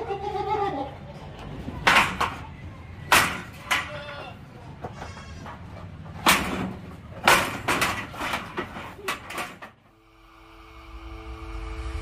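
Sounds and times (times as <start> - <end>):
knocks and rattles in goat pen: 0.0 - 9.9.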